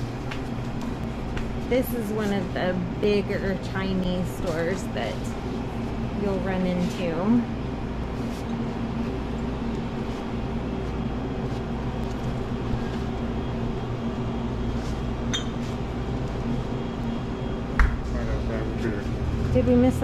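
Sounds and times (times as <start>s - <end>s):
drink cooler refrigeration hum: 0.0s - 20.0s.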